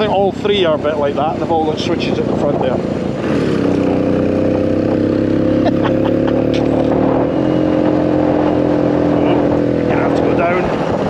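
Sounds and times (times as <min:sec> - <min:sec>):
two-stroke motorcycle engine running: 0:00.0 - 0:11.0.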